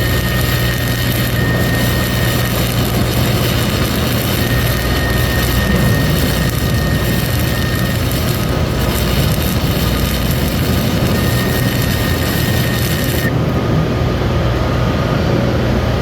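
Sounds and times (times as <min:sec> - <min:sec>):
welding arc crackling hiss: 0:00.0 - 0:13.4.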